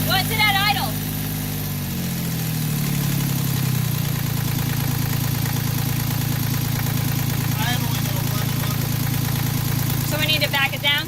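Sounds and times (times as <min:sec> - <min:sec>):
marine diesel engine idling: 0:00.0 - 0:11.0.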